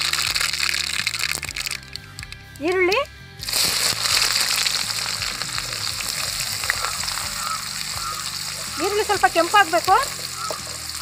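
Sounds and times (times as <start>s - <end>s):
onions sizzling in hot oil: 0.0s - 1.9s, 3.4s - 11.0s
small crackling ticks: 0.0s - 11.0s.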